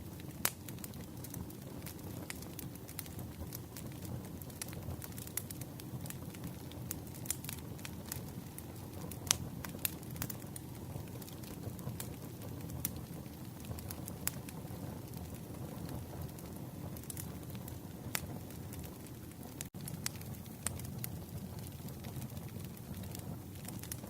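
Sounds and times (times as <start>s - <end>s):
campfire flames rushing: 0.0s - 24.0s
fire crackles and pops: 0.0s - 24.0s.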